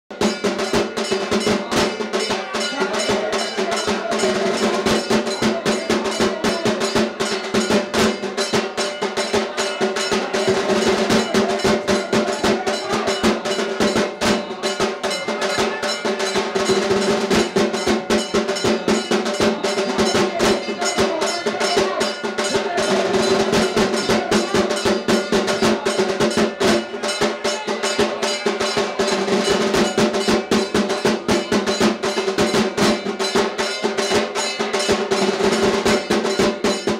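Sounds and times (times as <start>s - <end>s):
fast drum roll: 0.1s - 36.9s.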